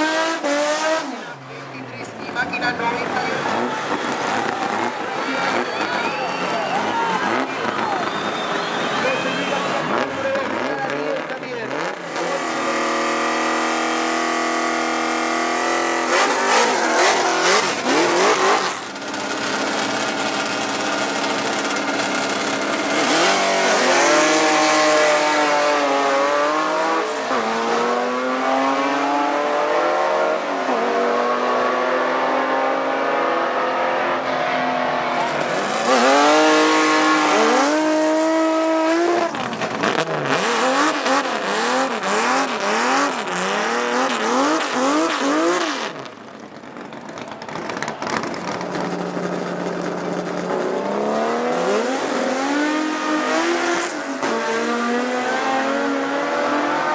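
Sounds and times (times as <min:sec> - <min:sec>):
engine rev blips: 0:00.0 - 0:56.9
racing car engines accelerating: 0:00.0 - 0:56.9.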